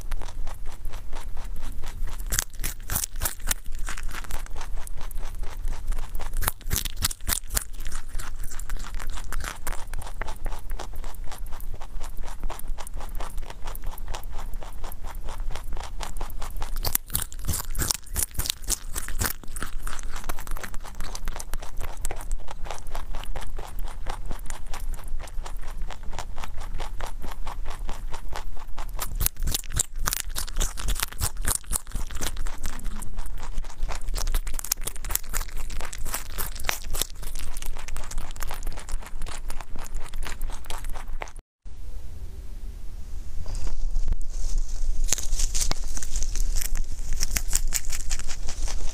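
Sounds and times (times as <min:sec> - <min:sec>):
rabbit crunching carrots: 0:00.0 - 0:41.4, 0:43.4 - 0:48.9.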